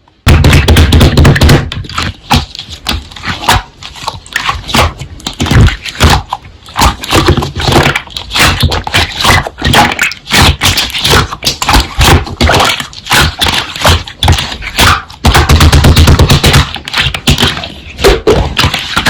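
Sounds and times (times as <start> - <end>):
slime squelching and popping: 0.2 - 19.0.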